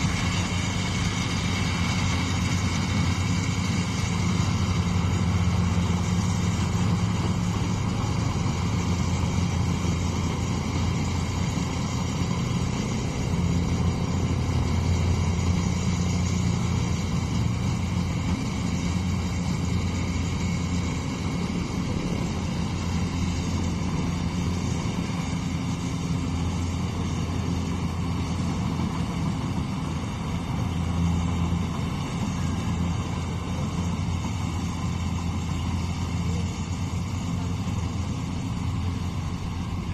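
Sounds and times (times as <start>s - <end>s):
harvester engine hum: 0.0s - 39.9s.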